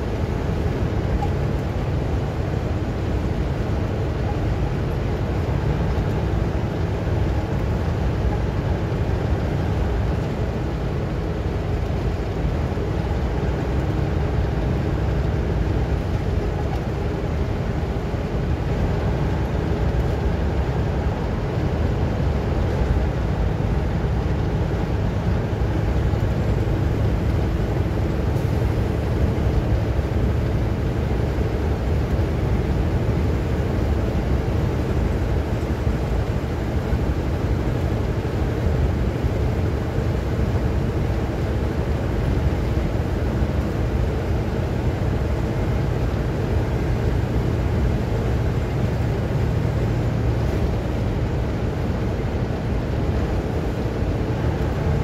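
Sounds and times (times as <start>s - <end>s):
engine and road noise in cabin: 0.0s - 55.0s.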